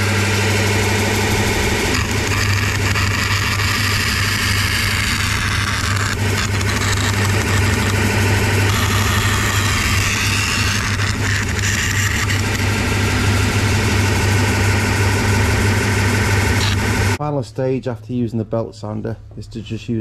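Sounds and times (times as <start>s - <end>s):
belt sander grinding metal: 0.0s - 17.2s.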